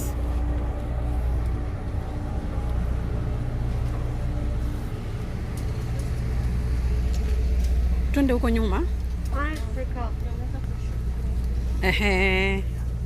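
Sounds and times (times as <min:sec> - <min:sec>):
low machinery hum: 0:00.0 - 0:13.0.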